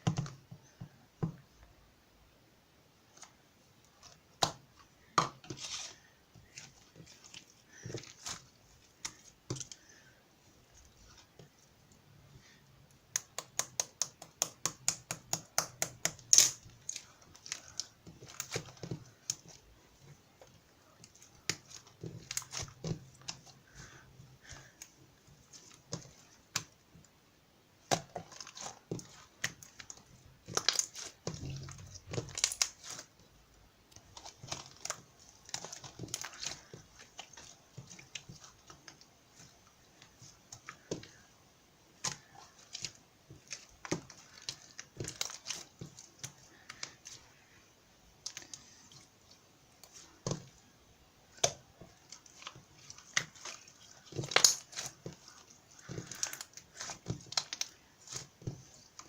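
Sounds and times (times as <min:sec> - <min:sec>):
crinkling handling noise: 0:03.0 - 0:12.6, 0:16.2 - 0:27.2, 0:27.8 - 0:59.0.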